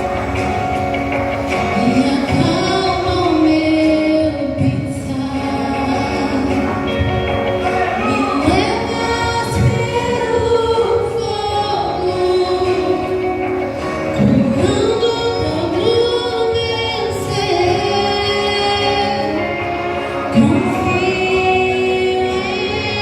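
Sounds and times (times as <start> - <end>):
group singing gospel: 0.0 - 23.0
instrumental accompaniment: 0.0 - 23.0.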